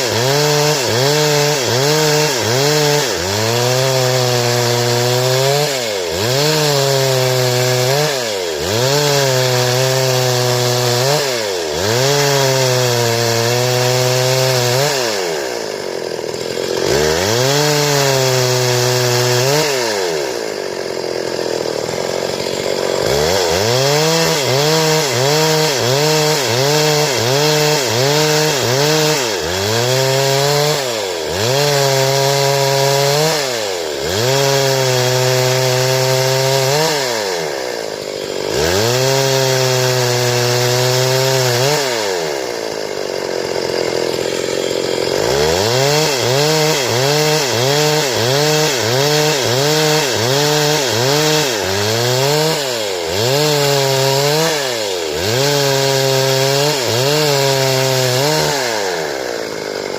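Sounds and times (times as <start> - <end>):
chainsaw cutting boards: 0.0 - 59.9.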